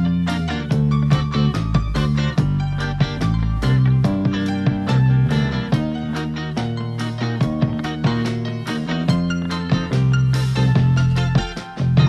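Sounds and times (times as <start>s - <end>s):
plucked guitar notes: 0.0s - 12.0s
steady bass line: 0.0s - 12.0s.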